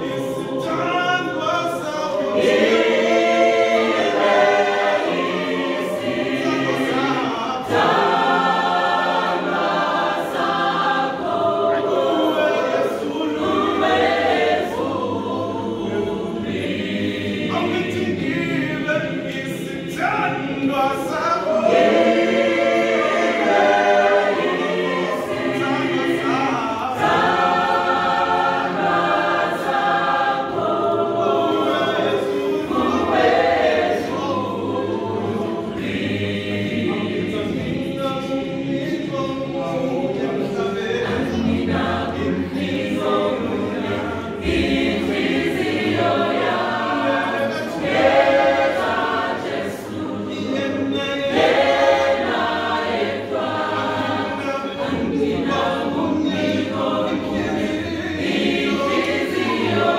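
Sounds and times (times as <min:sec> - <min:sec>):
mixed choir singing in harmony: 0:00.0 - 0:59.9.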